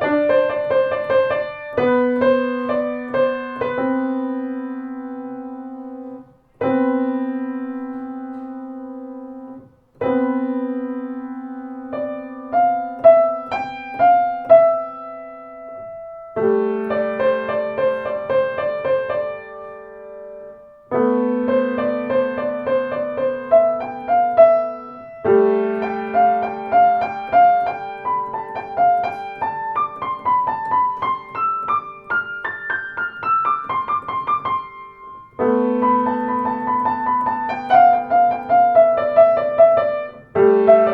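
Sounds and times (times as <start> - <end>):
solo piano music: 0.0 - 40.9.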